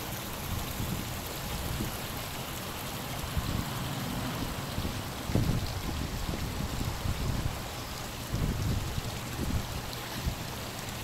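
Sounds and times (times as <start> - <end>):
floodwater running over ground: 0.0 - 11.0.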